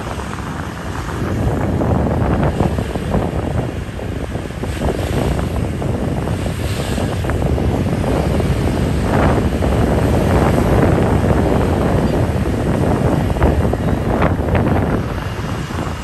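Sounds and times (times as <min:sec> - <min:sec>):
vehicle rumbling along street: 0:00.0 - 0:16.0
wind buffeting microphone: 0:00.0 - 0:16.0.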